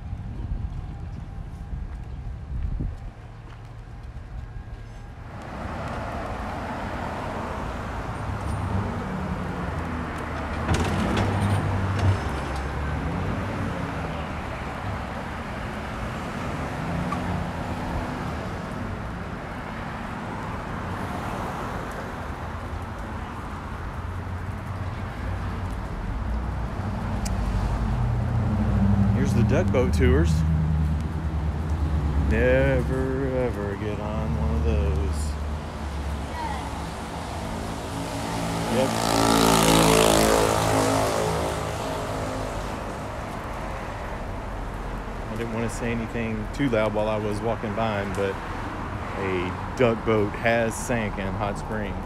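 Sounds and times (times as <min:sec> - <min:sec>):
vehicles driving past: 0:00.0 - 0:52.0.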